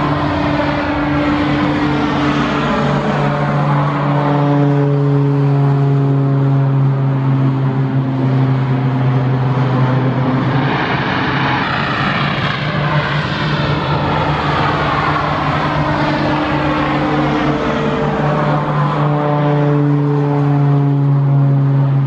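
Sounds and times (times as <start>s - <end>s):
propeller plane drone: 0.0s - 22.0s
turbine and propeller whine: 0.0s - 22.0s.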